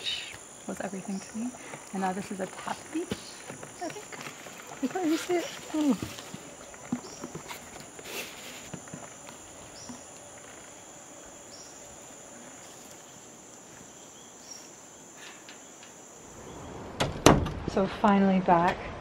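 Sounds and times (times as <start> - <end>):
insects droning high-pitched: 0.0 - 16.9.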